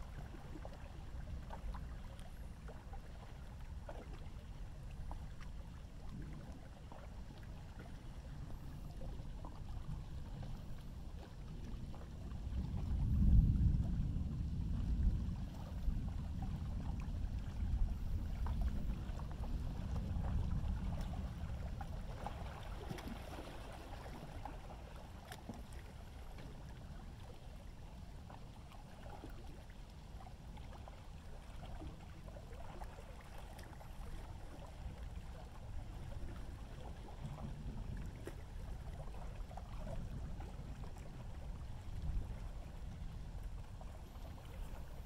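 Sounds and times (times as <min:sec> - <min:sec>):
faint water sounds: 0:00.0 - 0:45.0.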